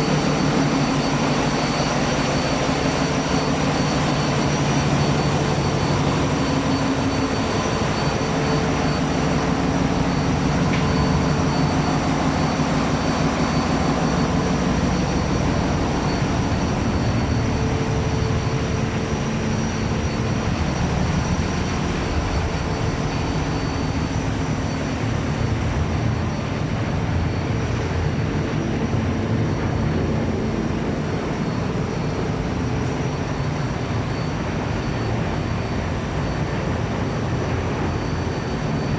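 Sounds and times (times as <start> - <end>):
boat engine droning: 0.0 - 38.9
high-pitched whines: 0.0 - 38.9.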